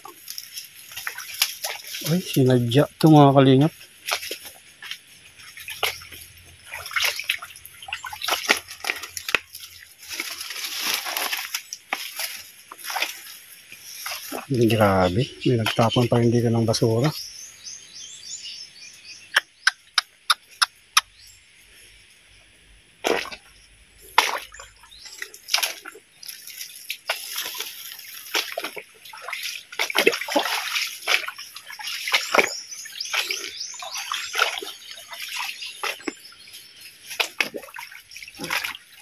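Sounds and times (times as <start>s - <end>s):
footsteps splashing in creek water: 0.0s - 17.4s, 22.8s - 39.0s
leaves and twigs crackling: 0.0s - 17.5s, 22.0s - 39.0s.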